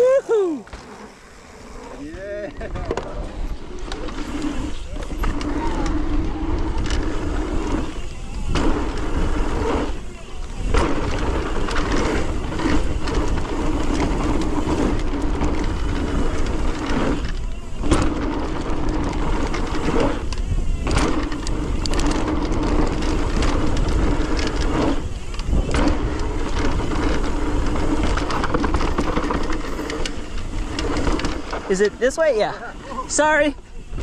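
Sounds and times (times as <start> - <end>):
tyre noise over rough ground: 0.0 - 34.0
wind rumble on microphone: 2.1 - 31.8, 33.8 - 34.0.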